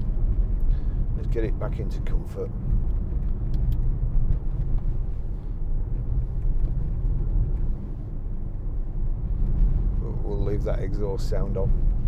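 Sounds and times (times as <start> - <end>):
car engine rumbling: 0.0 - 12.0
road noise: 0.0 - 12.0.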